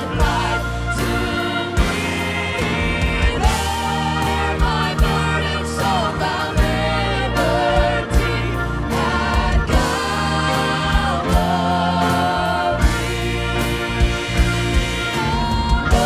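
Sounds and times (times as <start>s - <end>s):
backing singers: 0.0s - 16.0s
band playing: 0.0s - 16.0s.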